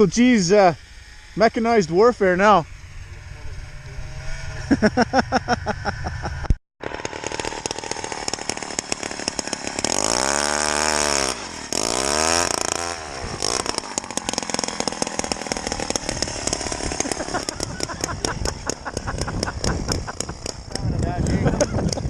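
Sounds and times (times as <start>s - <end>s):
ice auger engine revving: 0.0s - 22.0s.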